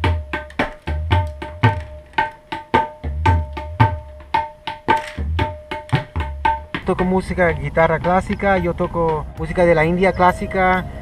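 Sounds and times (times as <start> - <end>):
tabla deep bass strokes: 0.0 - 11.0
tabla sharp ringing strokes: 0.0 - 11.0.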